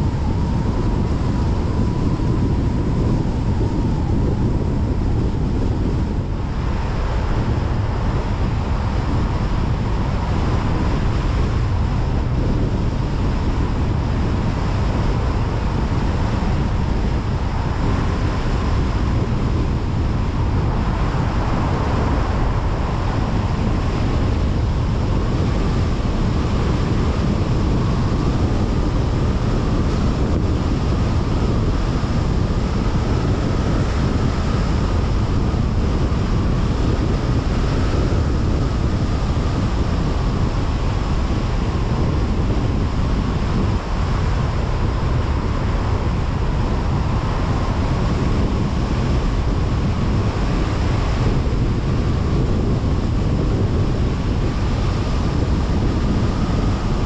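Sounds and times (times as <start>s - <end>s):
car road noise at speed: 0.0s - 57.0s
faint wavering whine: 0.0s - 57.0s.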